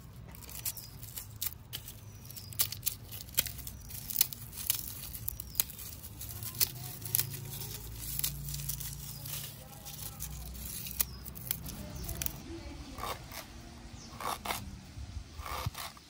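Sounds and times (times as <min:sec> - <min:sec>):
garlic skins crackling and tearing: 0:00.0 - 0:14.7.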